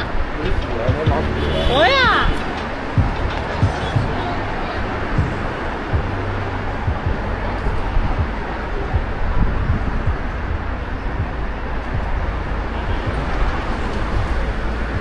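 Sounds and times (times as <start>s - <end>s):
gale wind buffeting microphone: 0.0s - 15.0s
traffic on busy road: 0.0s - 15.0s.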